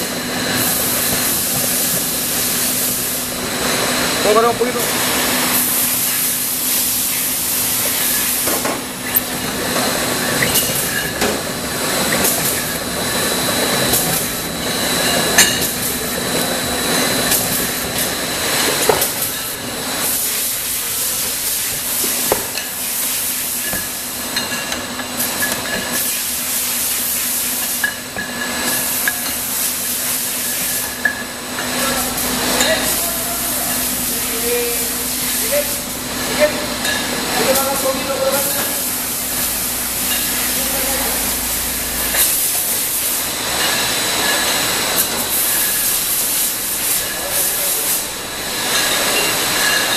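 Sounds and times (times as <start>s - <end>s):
labelling machine hum and hiss: 0.0s - 49.9s.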